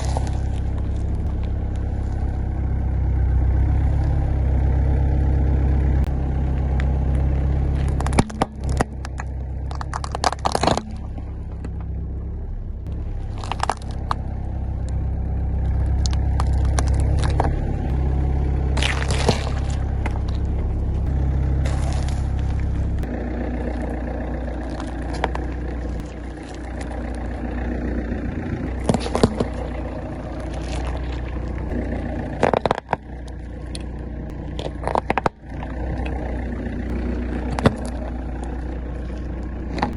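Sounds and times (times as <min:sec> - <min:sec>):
tyres crushing objects: 0:00.0 - 0:02.8, 0:06.1 - 0:12.0, 0:12.9 - 0:39.9
car engine running slowly: 0:00.0 - 0:39.9.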